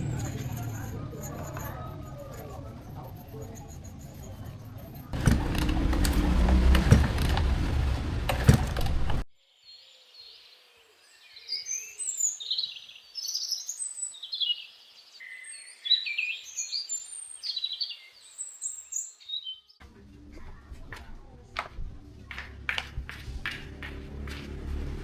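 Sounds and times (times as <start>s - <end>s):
songbirds chirping: 0.0s - 23.1s.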